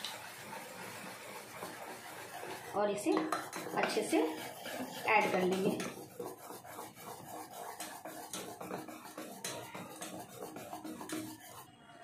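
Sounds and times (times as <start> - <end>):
spoon stirring batter in steel bowl: 0.0 - 11.8.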